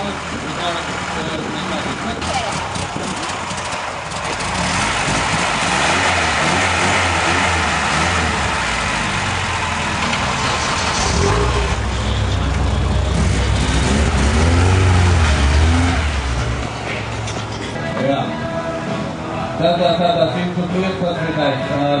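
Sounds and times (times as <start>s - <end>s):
car engine revving: 0.0s - 17.8s.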